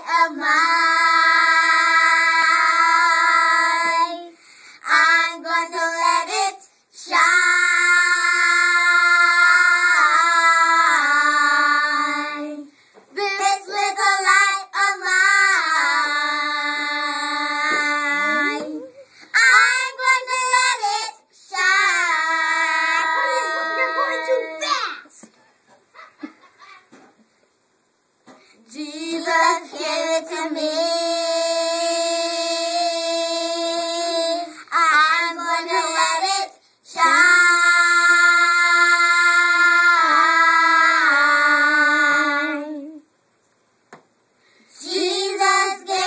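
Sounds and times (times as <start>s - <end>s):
children singing together: 0.0s - 24.7s, 28.7s - 43.0s, 44.7s - 46.0s.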